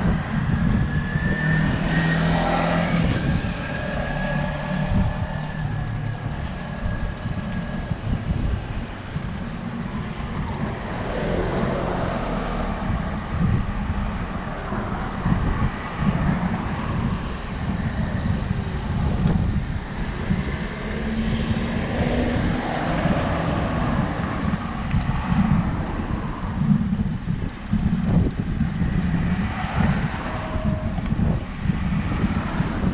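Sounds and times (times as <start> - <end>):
cars passing: 0.0 - 32.9
wind noise on microphone: 0.0 - 32.9.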